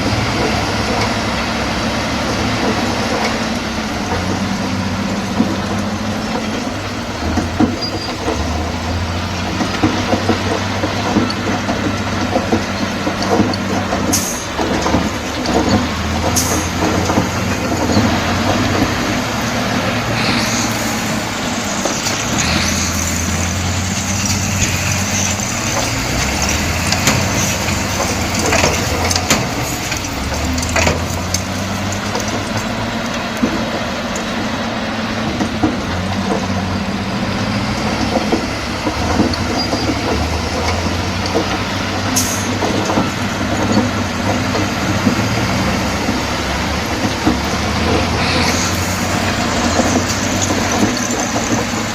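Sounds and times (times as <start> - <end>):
bulldozer diesel engine running: 0.0 - 51.9
metal clanks and knocks: 0.0 - 51.9.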